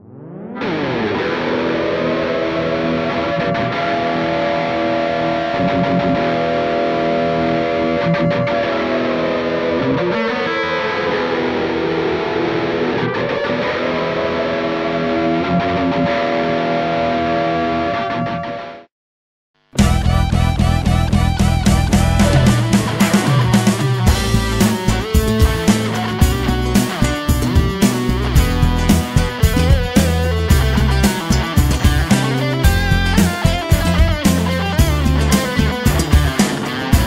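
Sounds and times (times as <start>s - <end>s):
distorted electric guitar chord: 0.1s - 18.8s, 19.8s - 37.0s.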